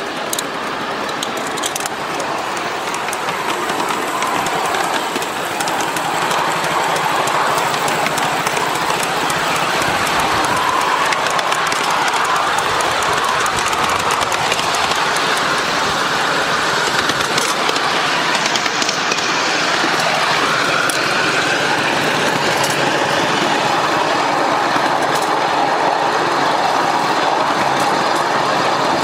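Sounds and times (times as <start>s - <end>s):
steam locomotive running: 0.0s - 29.0s.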